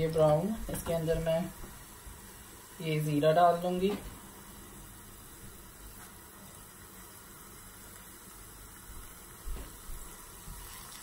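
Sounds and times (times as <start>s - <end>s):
hot oil sizzling with onions: 0.0s - 11.0s.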